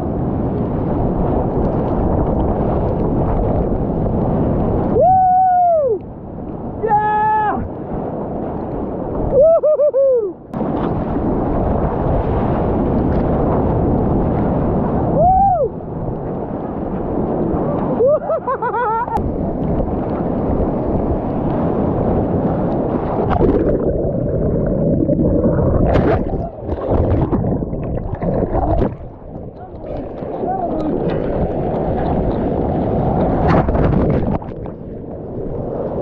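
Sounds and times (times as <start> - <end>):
breaking surf and whitewater: 0.0 - 36.0
wind buffeting microphone: 0.0 - 36.0.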